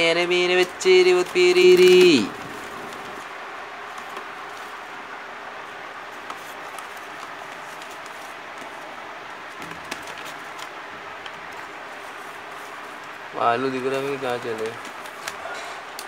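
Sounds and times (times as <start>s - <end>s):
background hiss: 0.0s - 16.0s
chicks scratching on newspaper: 0.2s - 4.9s, 6.0s - 8.9s, 9.8s - 15.5s.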